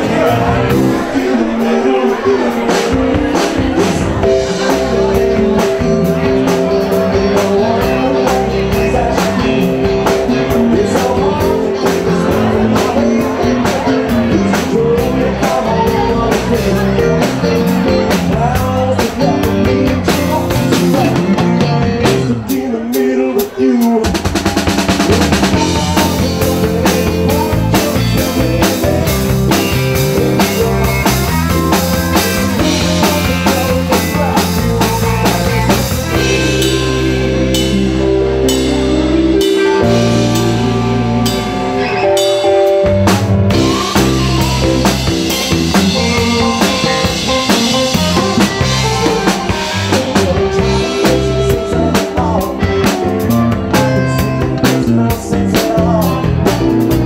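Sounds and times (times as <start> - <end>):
drum kit steady beat: 0.0 - 57.0
electric guitars: 0.0 - 57.0
rock band playing loudly: 0.0 - 57.0.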